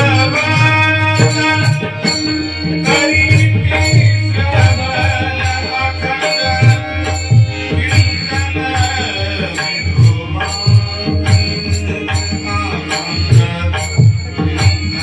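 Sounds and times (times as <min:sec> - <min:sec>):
person singing: 0:00.0 - 0:15.0
sustained accompanying tones: 0:00.0 - 0:15.0
tabla: 0:00.0 - 0:15.0.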